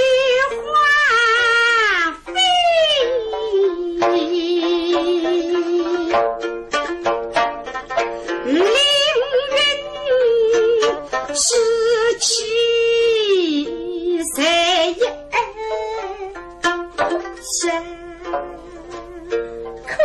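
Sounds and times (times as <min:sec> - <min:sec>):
woman singing with vibrato: 0:00.0 - 0:06.3, 0:08.4 - 0:16.4, 0:17.0 - 0:20.0
plucked pipa notes: 0:00.0 - 0:20.0.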